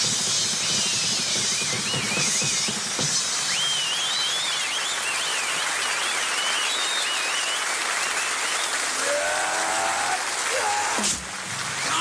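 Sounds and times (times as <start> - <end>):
audience applauding and cheering: 1.0 - 12.0.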